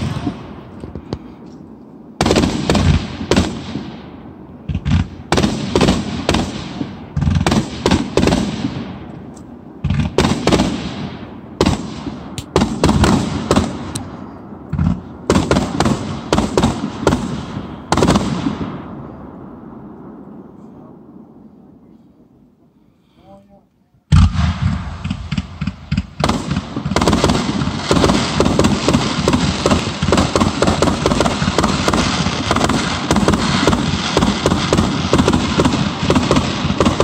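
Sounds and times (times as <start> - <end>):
fireworks bangs: 0.0 - 21.5, 24.1 - 37.0.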